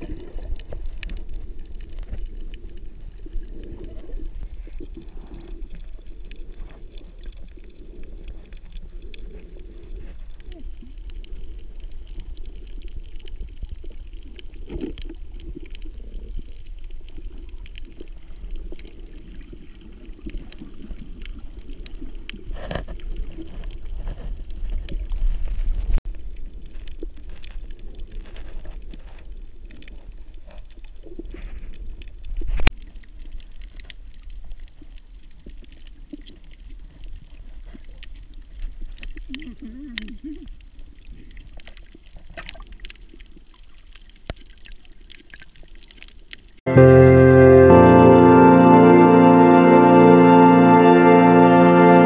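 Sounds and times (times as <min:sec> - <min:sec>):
faint clicks underwater: 0:00.0 - 0:46.6
water rushing and gurgling underwater: 0:00.0 - 0:46.6.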